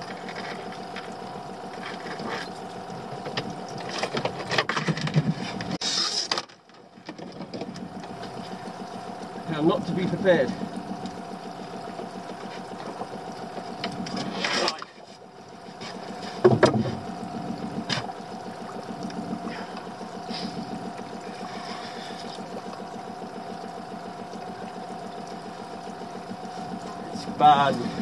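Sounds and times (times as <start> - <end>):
outboard motor idling: 0.0 - 28.0.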